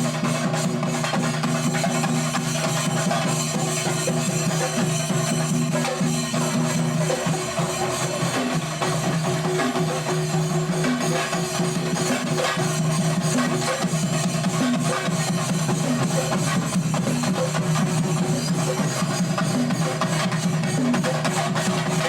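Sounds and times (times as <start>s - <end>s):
cymbals: 0.0s - 22.0s
drums beaten in fast rolls: 0.0s - 22.0s.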